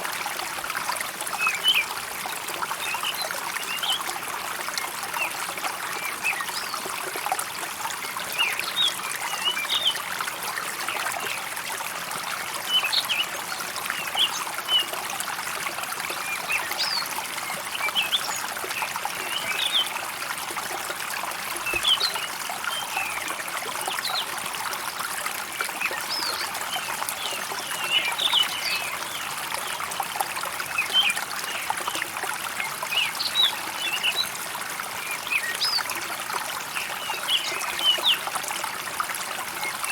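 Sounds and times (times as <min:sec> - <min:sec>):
water trickling in a stream: 0:00.0 - 0:39.9.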